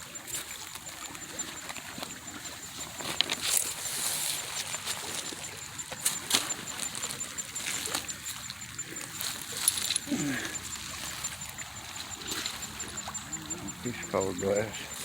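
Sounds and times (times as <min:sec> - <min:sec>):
creek water trickling: 0:00.0 - 0:15.0
water splashes and clicks: 0:00.0 - 0:15.0.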